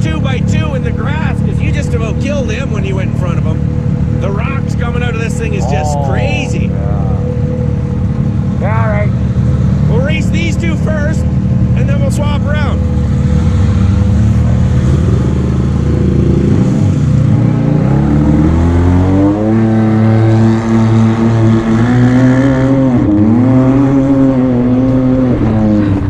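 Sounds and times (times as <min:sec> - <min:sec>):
engine accelerating hard: 0:00.0 - 0:26.0.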